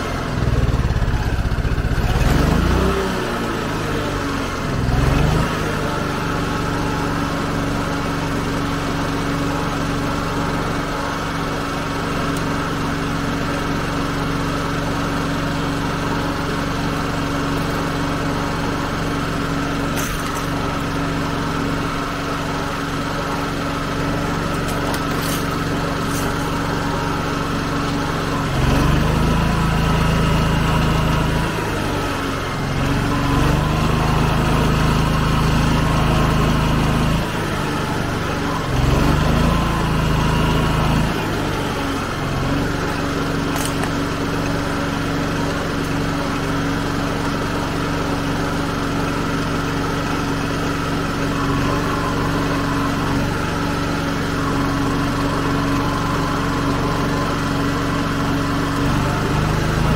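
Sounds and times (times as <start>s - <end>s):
generator engine humming: 0.0s - 59.9s.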